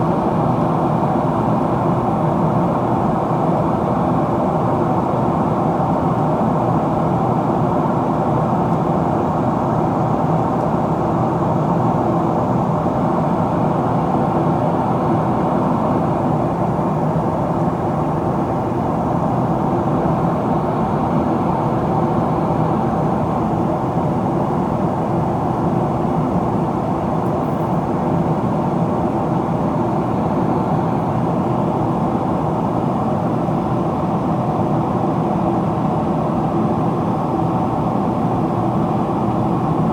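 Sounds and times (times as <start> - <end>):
rushing airflow in cabin: 0.0 - 39.9.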